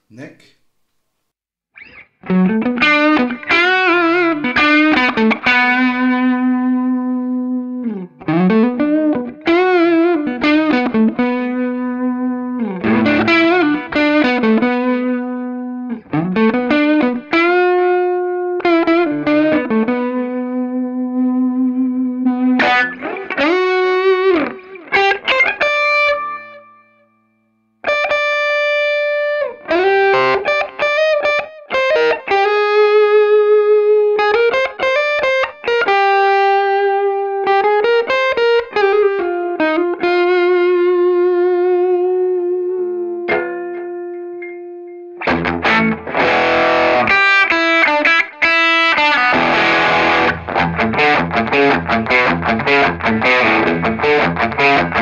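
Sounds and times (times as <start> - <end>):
distorted electric guitar lead: 1.8 - 26.7, 27.9 - 55.0.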